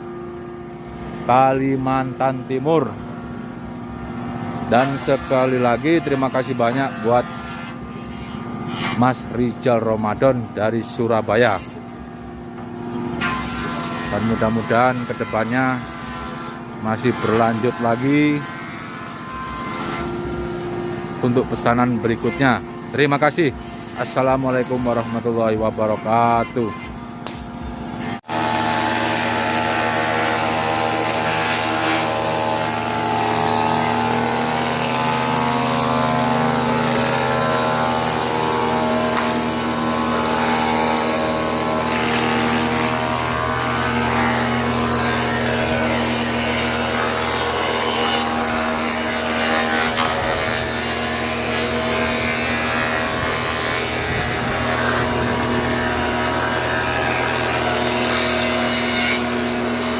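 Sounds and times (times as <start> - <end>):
woodworking machine humming: 0.0 - 59.9.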